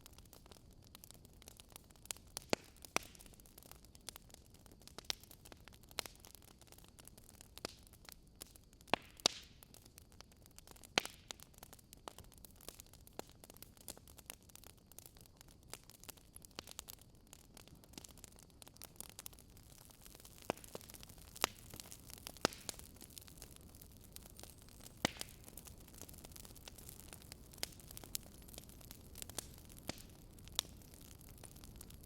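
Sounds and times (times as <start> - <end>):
faint steady hiss: 0.0 - 32.0
wood fire crackling: 0.0 - 32.0.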